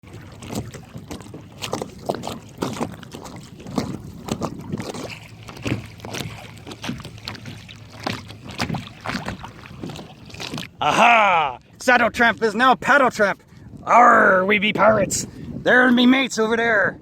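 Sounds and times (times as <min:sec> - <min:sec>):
water splashing against kayak hull: 0:00.0 - 0:17.0.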